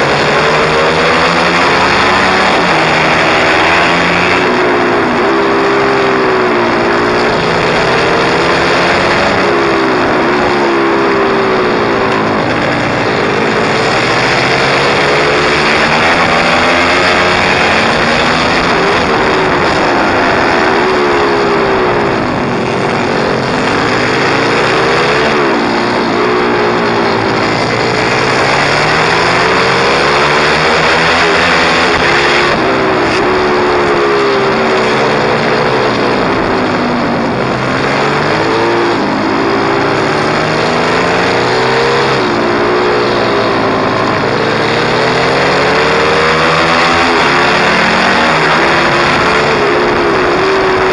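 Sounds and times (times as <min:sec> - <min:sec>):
loud rushing noise: 0:00.0 - 0:50.9
small motorbike engine revving: 0:00.0 - 0:50.9.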